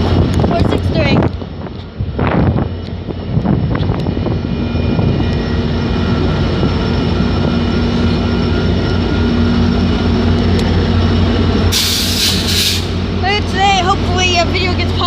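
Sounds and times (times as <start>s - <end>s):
diesel locomotive running: 0.0s - 15.0s.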